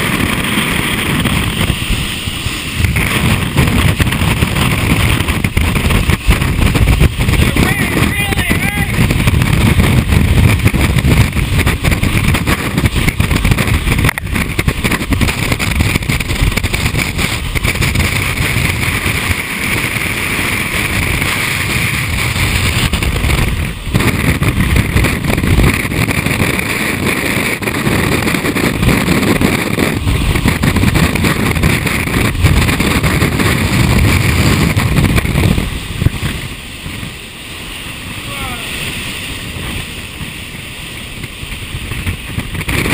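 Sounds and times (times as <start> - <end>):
strong wind buffeting microphone: 0.0 - 42.9.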